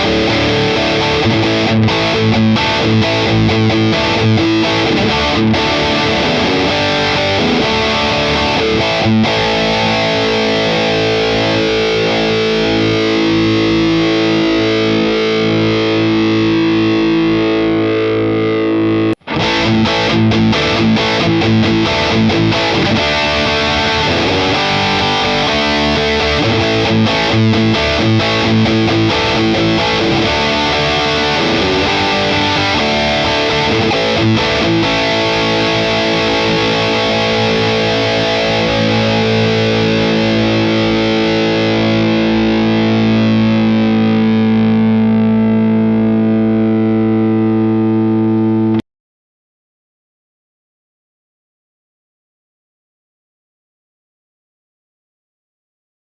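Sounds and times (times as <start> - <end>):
distorted electric guitar riffing: 0.0 - 48.8.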